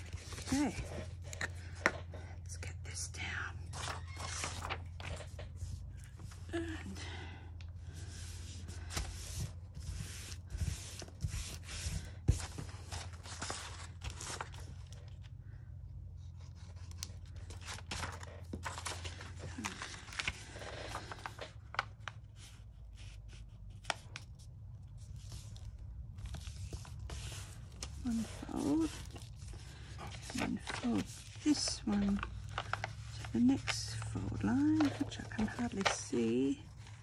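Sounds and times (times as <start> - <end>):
paper rustling and crinkling: 0.0 - 2.3, 3.6 - 7.2, 7.8 - 37.0.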